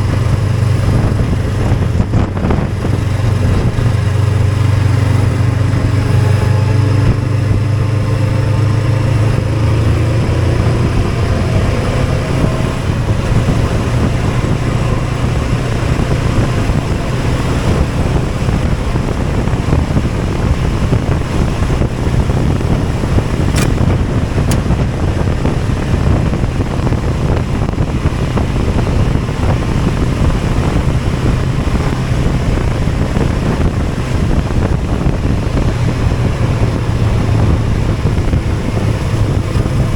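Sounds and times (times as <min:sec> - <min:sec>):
road noise: 0:00.0 - 0:39.9
vehicle engine accelerating: 0:00.0 - 0:39.9
wind noise: 0:00.0 - 0:39.9.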